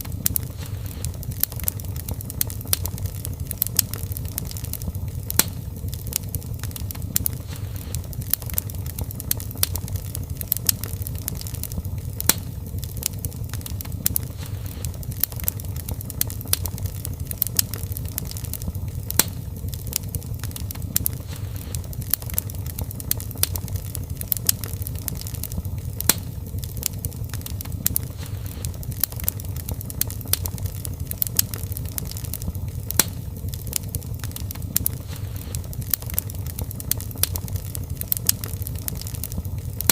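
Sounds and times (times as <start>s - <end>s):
fire flames rumbling: 0.0s - 39.9s
wood fire crackling and popping: 0.0s - 39.9s.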